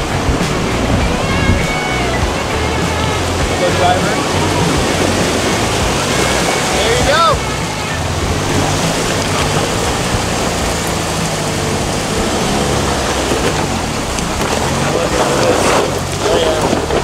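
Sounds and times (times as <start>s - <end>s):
truck engine running: 0.0s - 17.0s
water splashing and churning: 0.0s - 17.0s.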